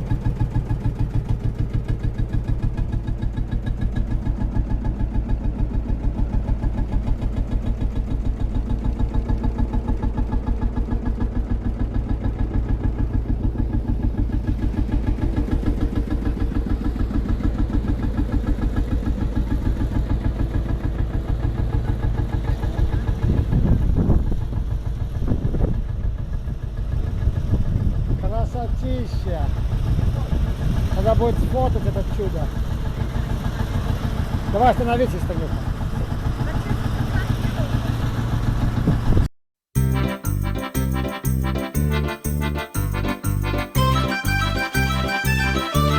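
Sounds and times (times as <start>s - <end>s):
vintage engine idling: 0.0s - 39.1s, 39.8s - 45.9s.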